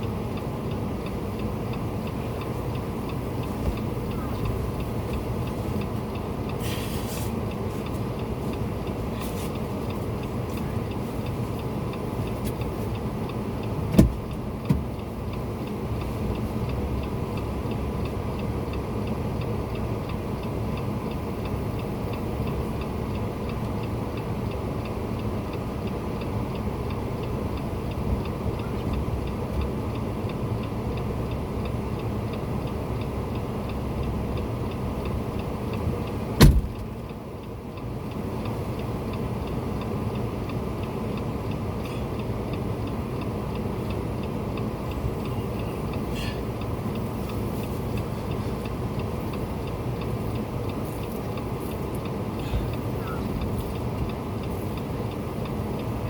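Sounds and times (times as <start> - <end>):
faint regular ticking: 0.0 - 6.6, 7.3 - 56.0
vehicle engine running: 0.0 - 56.0.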